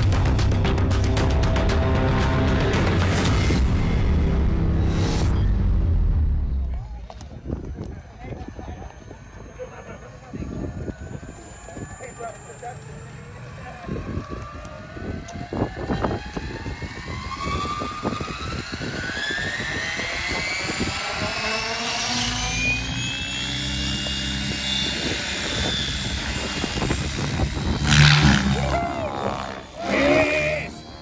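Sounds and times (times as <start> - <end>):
helicopter rotor beat: 0.0 - 5.2, 6.6 - 31.0
rc helicopter whine rising: 0.0 - 31.0.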